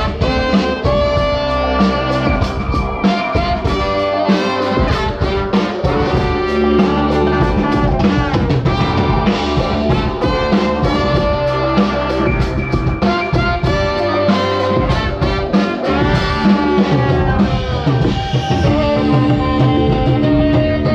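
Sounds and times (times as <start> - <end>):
drum kit: 0.0 - 20.9
trumpets and trombones holding notes: 0.0 - 20.9.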